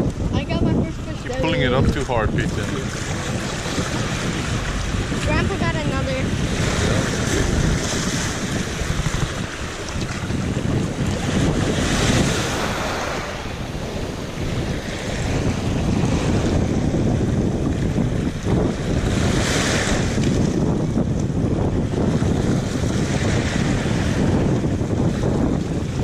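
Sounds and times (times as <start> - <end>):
small ocean waves breaking: 0.0 - 26.0
wind buffeting microphone: 0.0 - 26.0.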